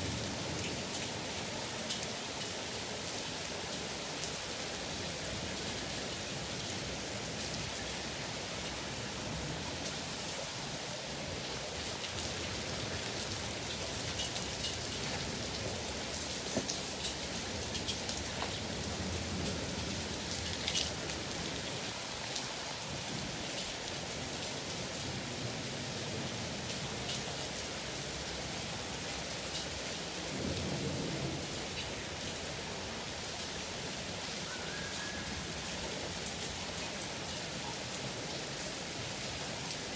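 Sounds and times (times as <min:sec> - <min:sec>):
heavy rain pouring: 0:00.0 - 0:39.9
raindrops ticking on hard surfaces: 0:00.0 - 0:39.9.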